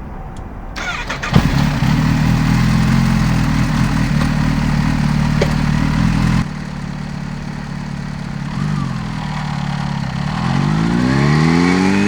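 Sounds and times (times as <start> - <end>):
motorcycle engine revving: 0.8 - 12.0.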